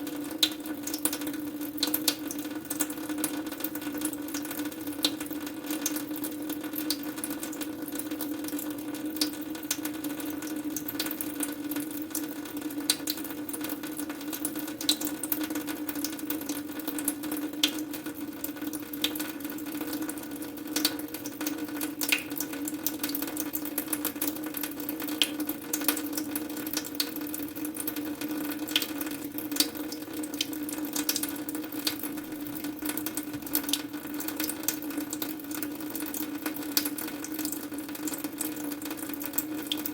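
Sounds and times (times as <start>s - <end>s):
small splashes and drips: 0.0s - 39.9s
water running in a stream: 0.0s - 39.9s.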